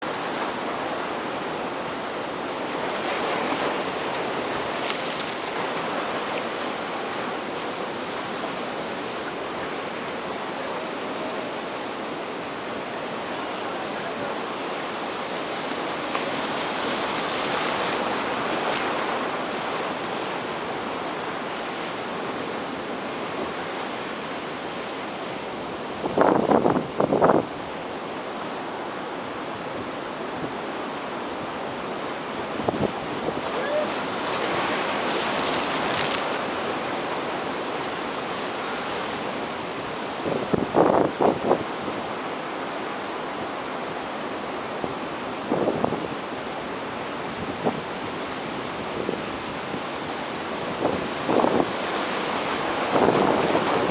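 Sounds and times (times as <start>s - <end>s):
waves breaking: 0.0s - 53.9s.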